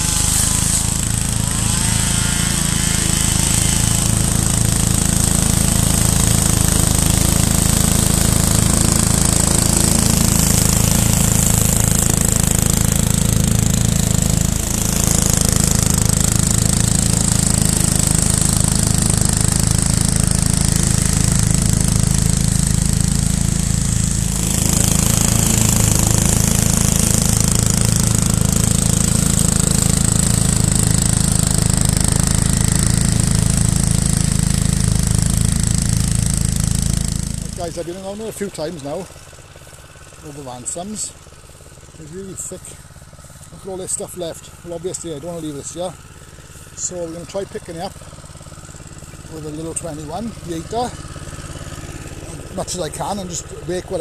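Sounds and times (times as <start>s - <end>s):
lawn mower cutting dense grass: 0.0s - 54.0s.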